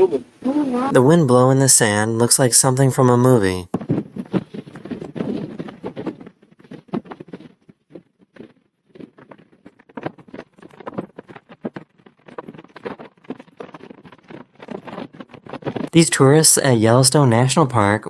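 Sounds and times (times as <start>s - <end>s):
wind-blown sand pattering: 0.0s - 17.1s.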